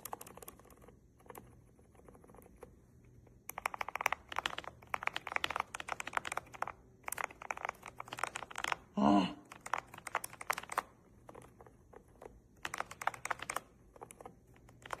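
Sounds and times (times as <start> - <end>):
mechanical keyboard typing: 0.0 - 2.7, 3.4 - 15.0.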